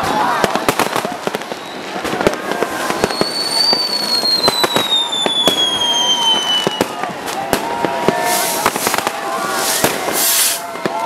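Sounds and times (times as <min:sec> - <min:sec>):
fireworks bangs and cracks: 0:00.0 - 0:11.0
firework whistle: 0:00.4 - 0:11.0.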